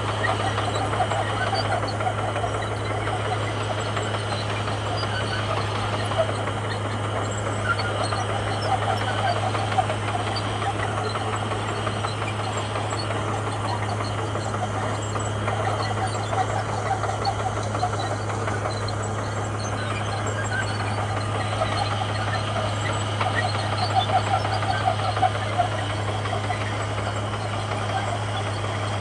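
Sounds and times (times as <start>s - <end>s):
bulldozer engine running: 0.0s - 29.0s.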